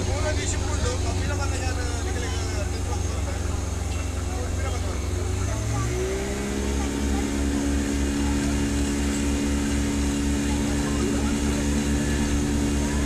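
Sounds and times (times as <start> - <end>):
boat engine throbbing: 0.0 - 13.0.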